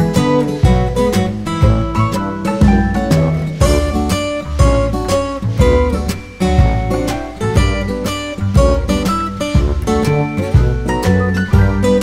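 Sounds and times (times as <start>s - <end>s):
guitar music with bass and beat: 0.0s - 12.0s.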